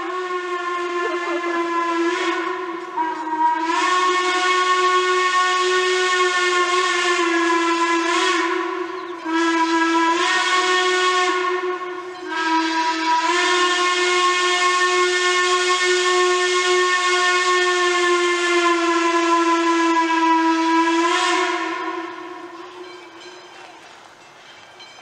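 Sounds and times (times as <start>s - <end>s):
steam whistle blasts: 0.0s - 23.8s.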